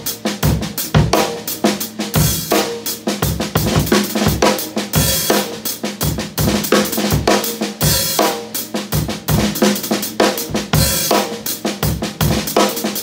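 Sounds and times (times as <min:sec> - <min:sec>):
drum kit groove: 0:00.0 - 0:13.0
hi-hat keeping time: 0:00.0 - 0:13.0.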